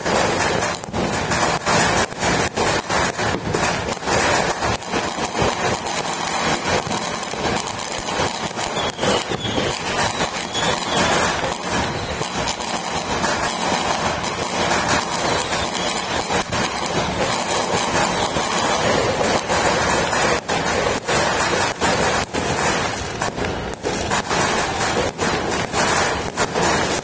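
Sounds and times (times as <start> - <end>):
firecracker bangs: 0.0 - 27.0
fireworks crackling: 0.0 - 27.0.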